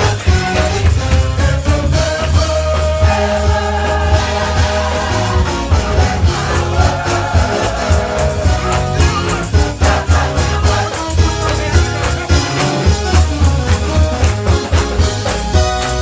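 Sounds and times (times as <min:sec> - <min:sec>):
gospel choir singing: 0:00.0 - 0:13.1
church band playing: 0:00.0 - 0:16.0.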